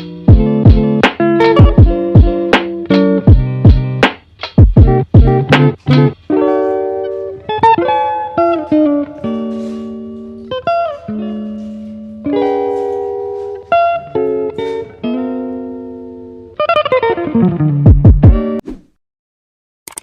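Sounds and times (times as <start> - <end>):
plucked guitar melody: 0.0 - 18.6.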